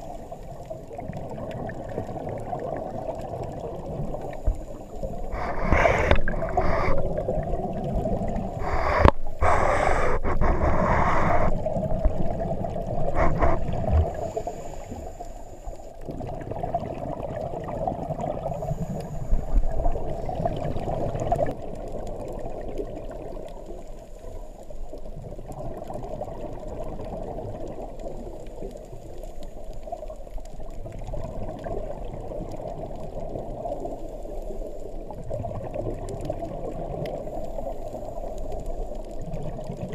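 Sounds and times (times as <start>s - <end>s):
low underwater rush of water: 0.0s - 39.9s.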